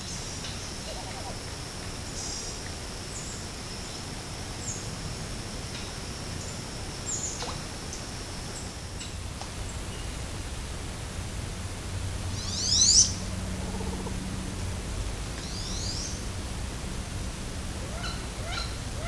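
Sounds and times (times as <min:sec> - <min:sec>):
low even hiss: 0:00.0 - 0:19.0.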